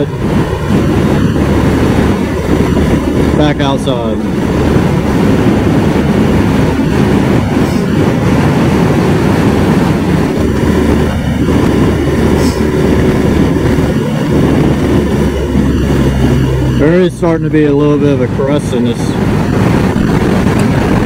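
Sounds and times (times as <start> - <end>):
motorcycle engine drone: 0.0 - 21.0
wind rush on microphone: 0.0 - 21.0.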